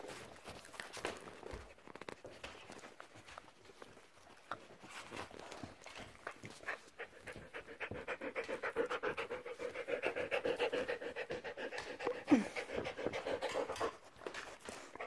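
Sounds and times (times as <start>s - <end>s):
dog panting: 2.4s - 15.0s.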